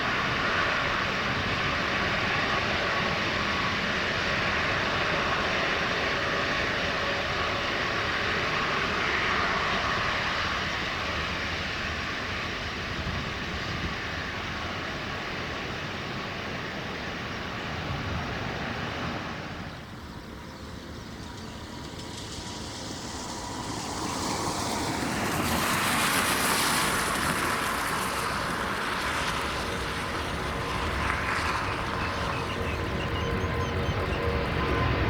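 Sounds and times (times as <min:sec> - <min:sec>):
jet engines at takeoff power: 0:00.0 - 0:35.0.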